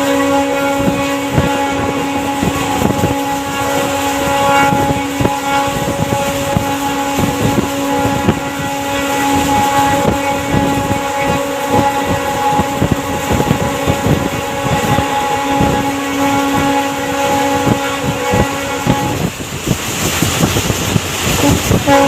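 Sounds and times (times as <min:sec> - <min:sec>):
steady pitched hum: 0:00.0 - 0:19.5
wind rushing past microphone: 0:00.0 - 0:22.0.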